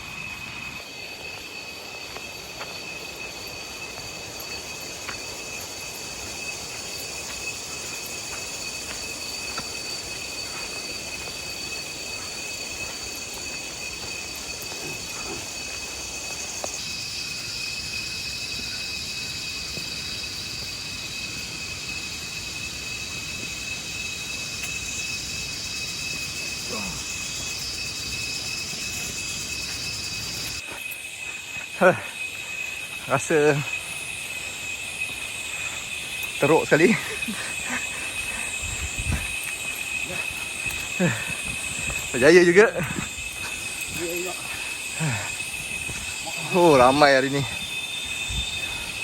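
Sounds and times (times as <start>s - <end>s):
high-pitched insect buzzing: 0.0s - 49.0s
higher hissing insect chorus: 0.0s - 49.0s.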